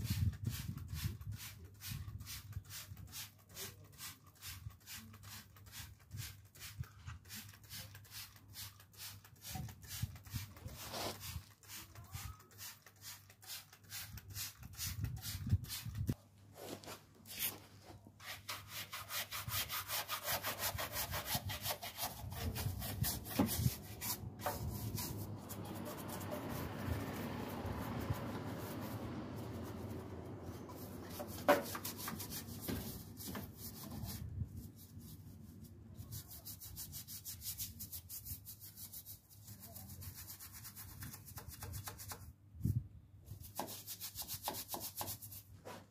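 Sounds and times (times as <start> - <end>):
scrubbing strokes: 0.0 - 41.8.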